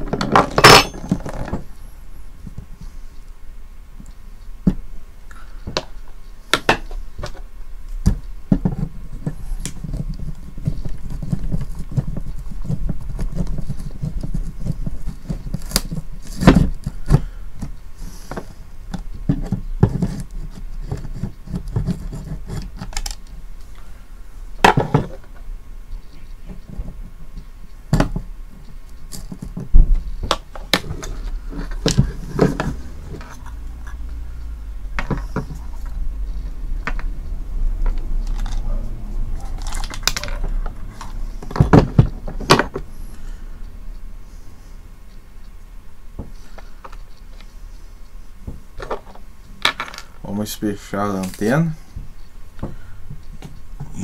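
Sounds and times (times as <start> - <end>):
low rumble of hand handling: 0.0 - 54.0.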